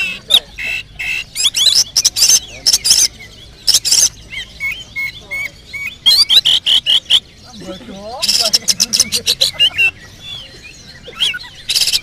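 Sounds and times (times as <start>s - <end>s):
magpie-robin singing: 0.0s - 12.0s.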